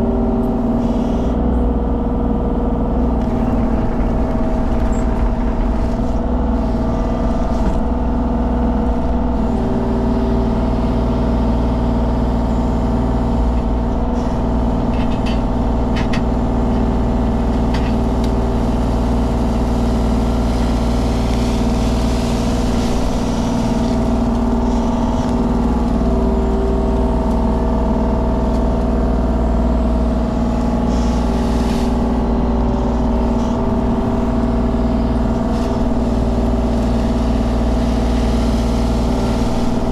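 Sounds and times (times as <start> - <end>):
excavator diesel engine running: 0.0 - 39.9
hydraulic whine: 0.0 - 39.9.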